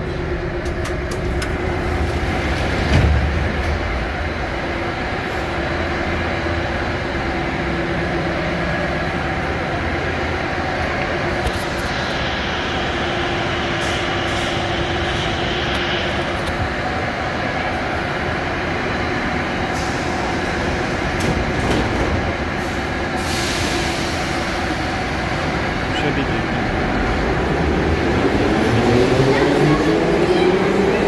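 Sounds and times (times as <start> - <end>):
train equipment humming: 0.0 - 31.0.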